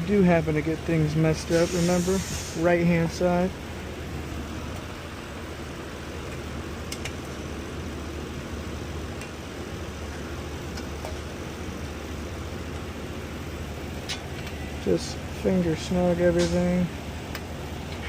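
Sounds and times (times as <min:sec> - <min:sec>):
shop machinery humming: 0:00.0 - 0:18.0.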